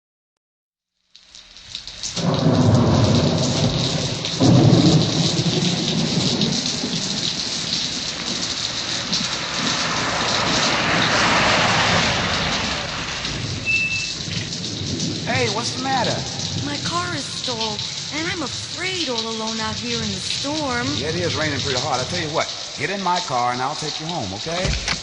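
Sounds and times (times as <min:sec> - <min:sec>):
heavy rain: 0:01.0 - 0:25.0
thunder rolling: 0:02.0 - 0:25.0.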